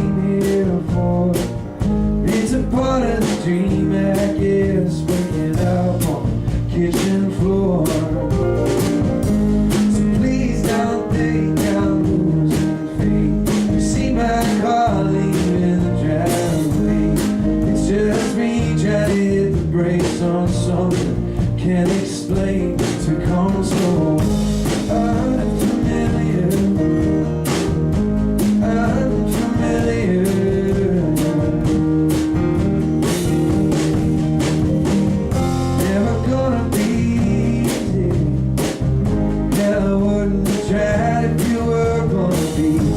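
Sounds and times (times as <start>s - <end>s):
live band playing country song: 0.0s - 42.9s.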